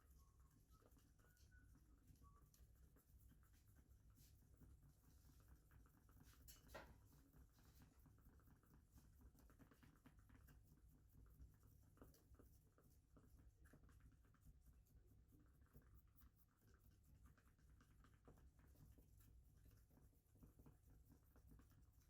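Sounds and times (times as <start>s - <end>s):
faint scratching: 0.0s - 22.0s
low room hum: 0.0s - 22.0s.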